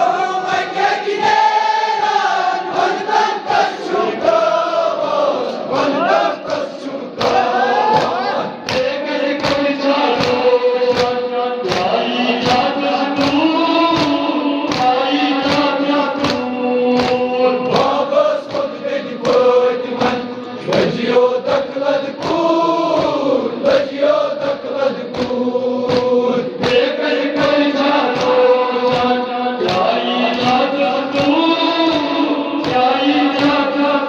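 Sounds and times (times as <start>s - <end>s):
men chanting a lament: 0.0s - 34.0s
group chest-beating: 2.8s - 33.6s.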